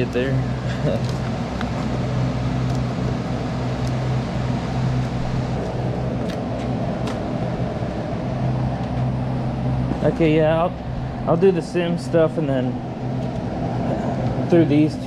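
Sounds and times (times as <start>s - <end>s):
low hum: 0.0s - 15.0s
steady rushing noise: 0.0s - 15.0s.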